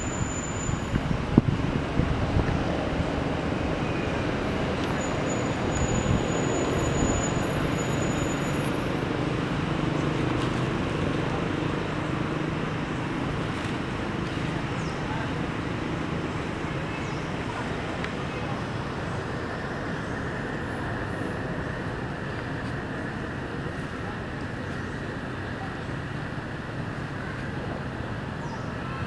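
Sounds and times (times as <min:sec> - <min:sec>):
distant voices murmuring: 0:00.0 - 0:29.0.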